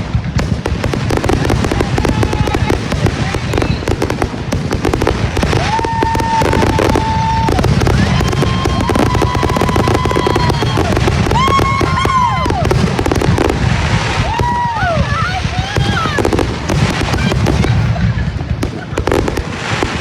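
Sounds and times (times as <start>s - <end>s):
fireworks crackling: 0.0s - 20.0s
low rumble of firework bursts: 0.0s - 20.0s
whistling fireworks: 0.0s - 20.0s.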